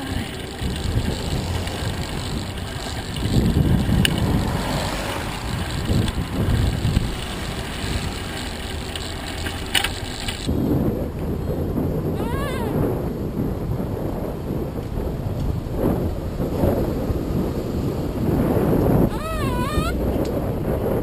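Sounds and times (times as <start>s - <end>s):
tyre and road noise: 0.0s - 21.0s
wind buffeting microphone: 0.0s - 21.0s.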